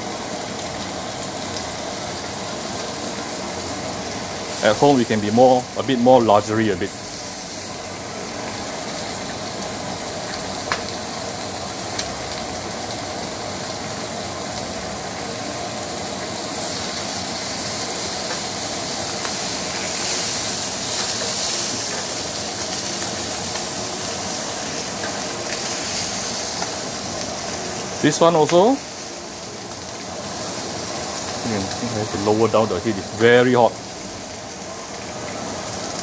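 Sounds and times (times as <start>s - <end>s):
meat sizzling on a grill: 0.0s - 36.0s.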